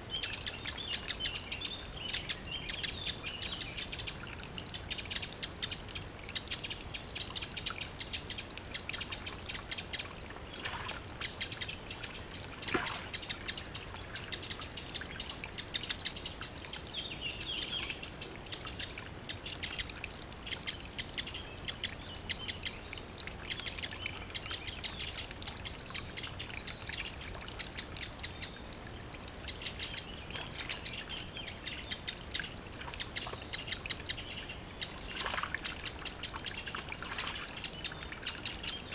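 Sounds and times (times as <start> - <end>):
songbirds chirping and singing: 0.0 - 38.9
water splashing and trickling: 0.0 - 38.9.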